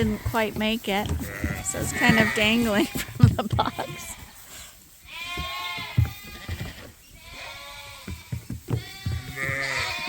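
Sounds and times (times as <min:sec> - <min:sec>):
lambs bleating: 0:00.0 - 0:10.0.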